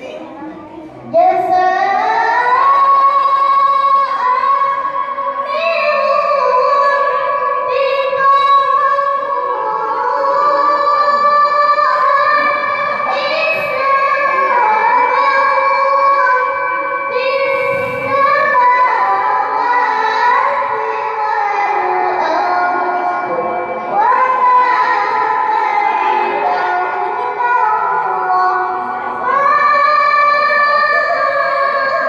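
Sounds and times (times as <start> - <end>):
girl chanting: 0.0 - 32.0.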